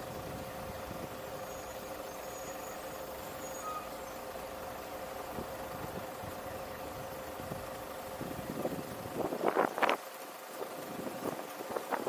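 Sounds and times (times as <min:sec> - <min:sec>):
constant high hum: 0:00.0 - 0:12.0
road traffic noise: 0:00.0 - 0:12.0.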